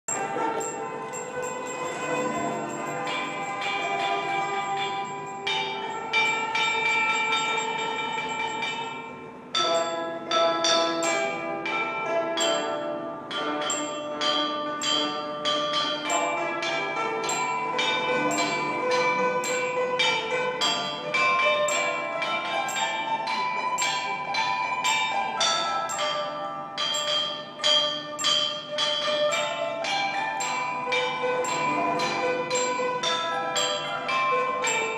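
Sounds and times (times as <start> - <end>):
chime bells playing slow melody: 0.1 - 34.9.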